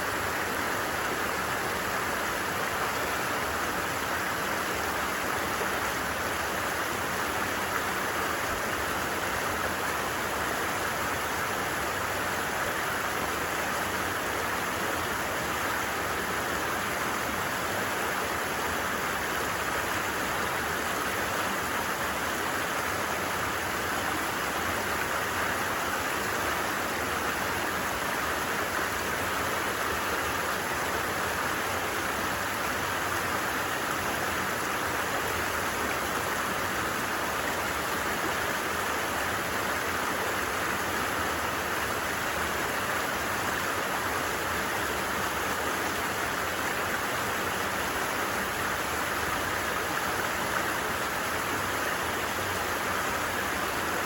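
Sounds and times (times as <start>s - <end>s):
stream flowing and babbling: 0.0s - 54.0s.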